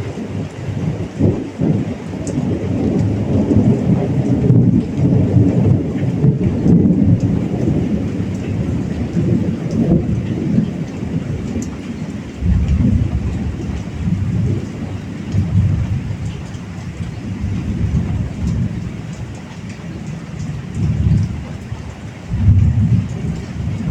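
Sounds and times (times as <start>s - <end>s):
heavy rain falling: 0.0s - 23.9s
thunder rumbling: 0.0s - 23.9s.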